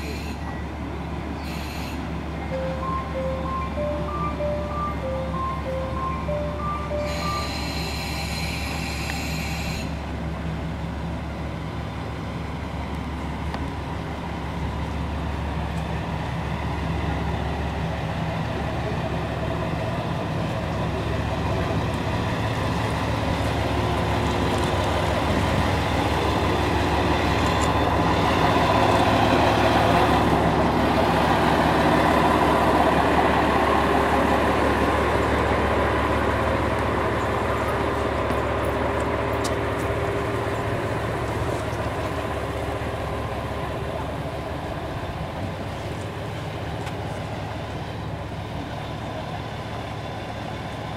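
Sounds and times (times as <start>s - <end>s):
diesel railcar engine idling: 0.0s - 50.9s.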